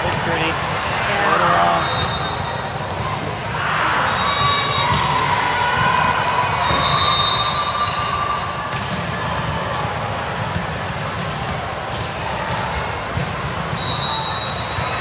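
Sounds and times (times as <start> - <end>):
large hall background noise: 0.0 - 15.0.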